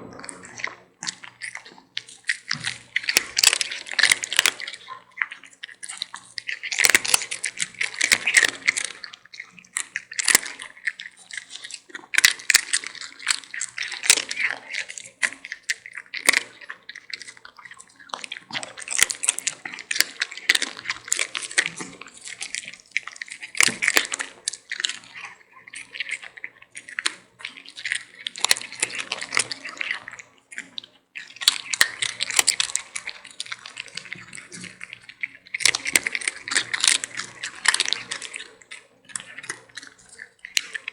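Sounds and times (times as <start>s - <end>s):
wet mouthing and chewing: 0.0s - 40.9s.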